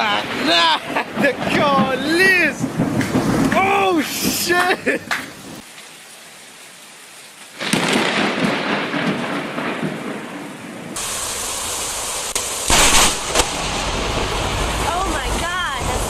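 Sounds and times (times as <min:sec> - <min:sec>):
loud thunderclap rumbling: 0:00.0 - 0:04.6, 0:07.6 - 0:16.0
rain hiss: 0:00.0 - 0:16.0.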